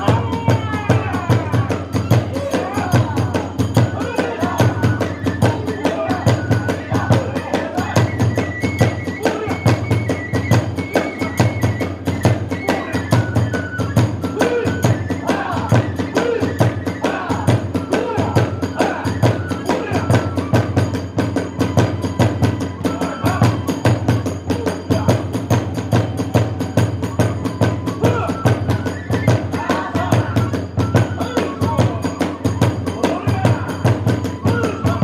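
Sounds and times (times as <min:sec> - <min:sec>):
bamboo flute melody: 0:00.0 - 0:35.0
fast steady drumbeat: 0:00.0 - 0:35.0.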